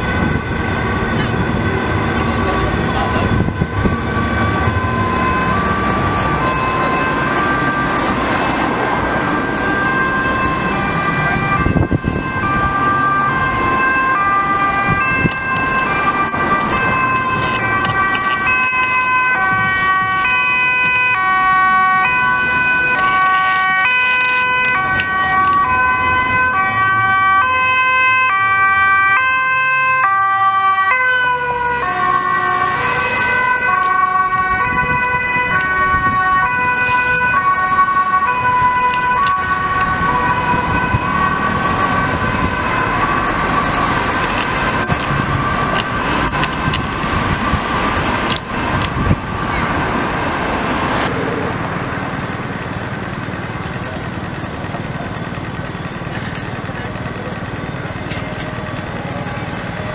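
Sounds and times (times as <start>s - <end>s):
city traffic: 0.0s - 59.9s
two-tone sirens: 0.0s - 59.9s.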